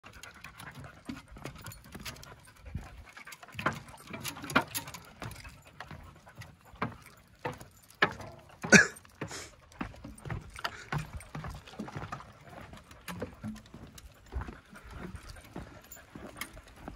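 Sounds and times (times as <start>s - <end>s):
dog panting: 0.0s - 8.0s, 9.2s - 16.9s
footsteps on wooden steps: 0.1s - 16.9s.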